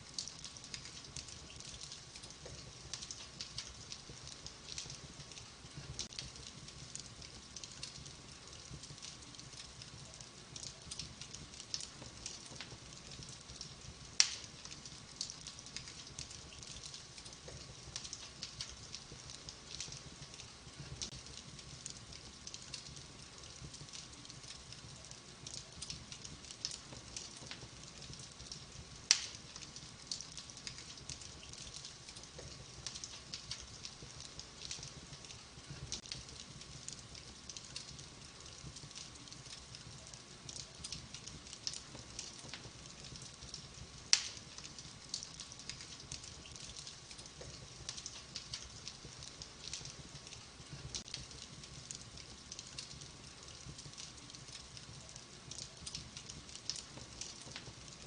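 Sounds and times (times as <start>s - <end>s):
wood fire crackling: 0.0s - 58.0s
loud fire pops: 0.1s - 24.7s, 25.4s - 54.7s.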